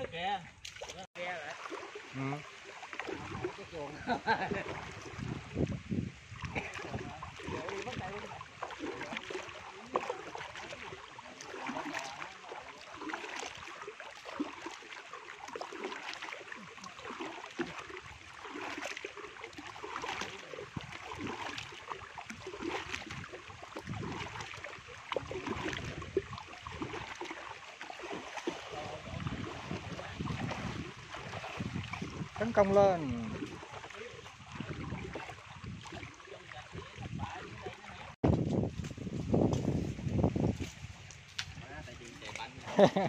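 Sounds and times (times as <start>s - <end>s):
muddy water sloshing and splashing: 0.0s - 43.0s.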